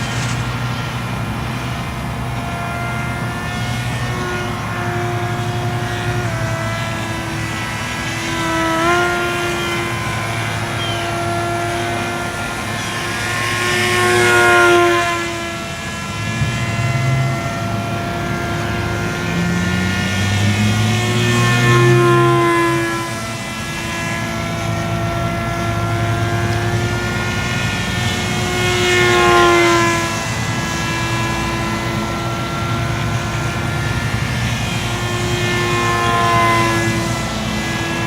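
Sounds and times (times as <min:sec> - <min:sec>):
model airplane motor and propeller: 0:00.0 - 0:38.0.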